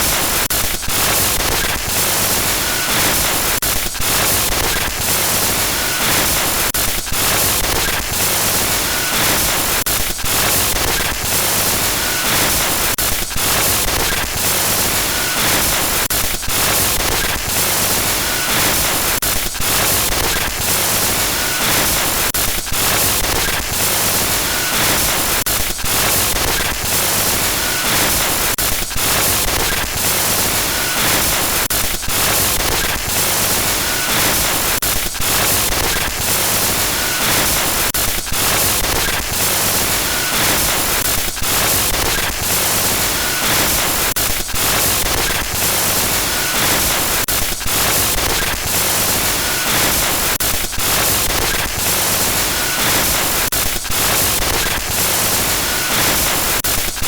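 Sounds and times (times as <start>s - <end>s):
harsh digital static noise: 0.0s - 57.0s.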